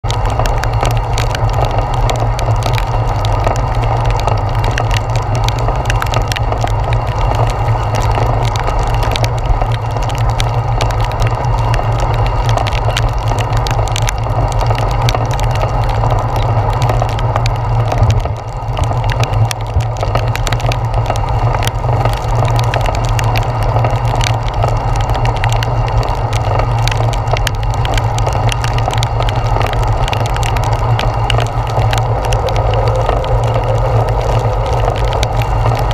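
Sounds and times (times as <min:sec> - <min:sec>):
low rumble: 0:00.0 - 0:35.9
rain rushing: 0:00.0 - 0:35.9
raindrops ticking on camera: 0:00.0 - 0:35.9
wind noise: 0:00.0 - 0:35.9.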